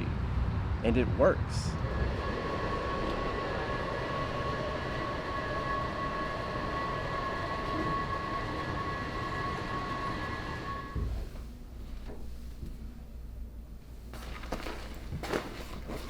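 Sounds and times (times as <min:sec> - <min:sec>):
steady rumble: 0:00.0 - 0:16.0.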